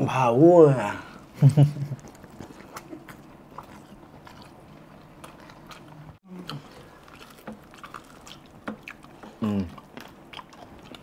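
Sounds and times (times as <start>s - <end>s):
people chewing and lip-smacking: 1.6s - 11.0s.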